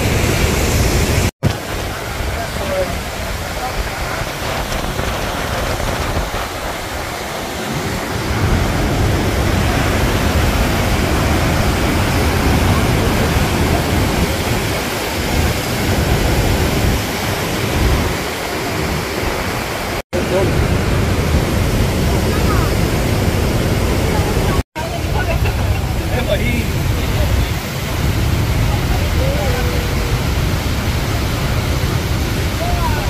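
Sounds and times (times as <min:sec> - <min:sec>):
water rushing over rocks: 0:00.0 - 0:33.0.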